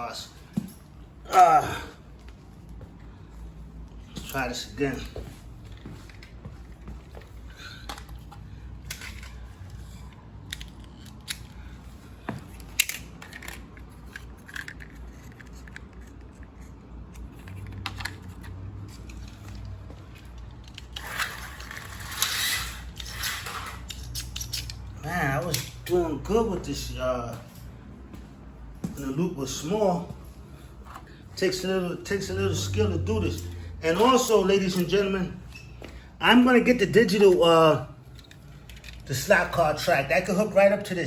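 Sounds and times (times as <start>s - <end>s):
steady low hum: 0.0s - 39.8s.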